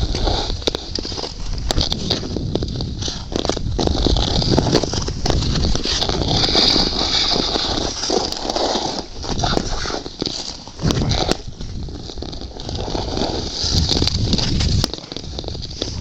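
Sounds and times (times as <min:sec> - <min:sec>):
ice skate blades scraping: 0:00.0 - 0:16.0.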